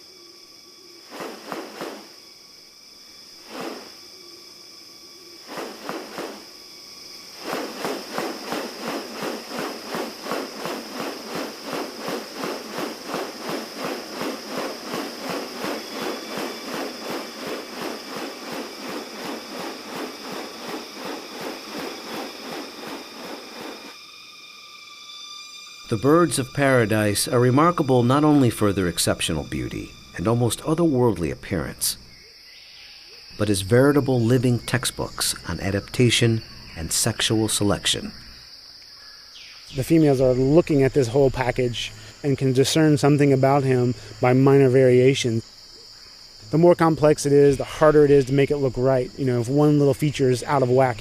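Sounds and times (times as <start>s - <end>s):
high-pitched insect drone: 0.0s - 51.0s.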